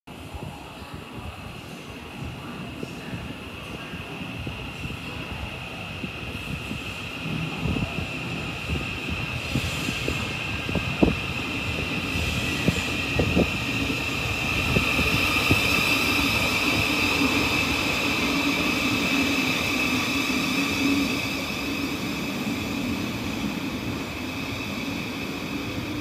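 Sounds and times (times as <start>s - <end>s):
train rumble: 0.1s - 26.0s.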